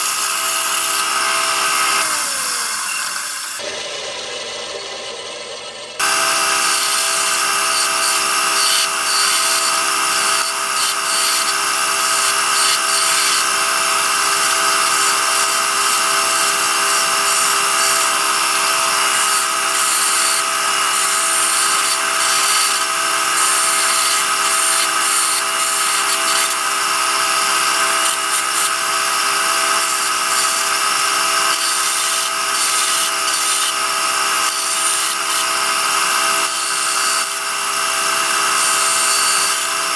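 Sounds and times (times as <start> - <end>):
scroll saw cutting wood: 0.0 - 39.9.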